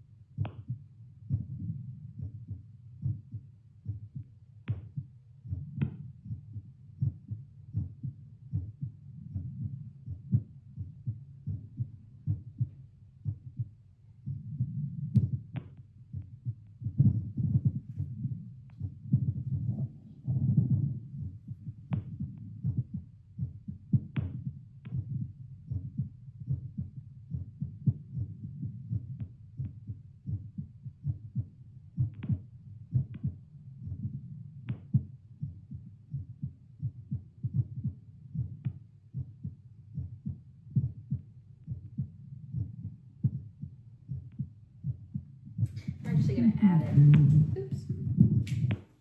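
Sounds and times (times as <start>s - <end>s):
heartbeat through stethoscope: 0.0s - 49.0s.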